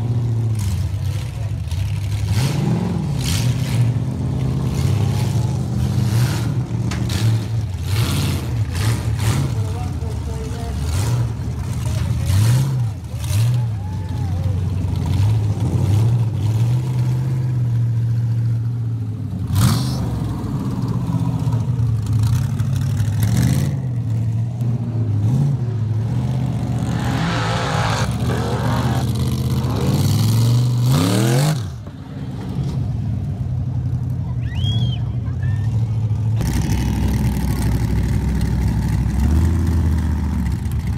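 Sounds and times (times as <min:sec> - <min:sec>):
buggy engine revving: 0:00.0 - 0:40.9.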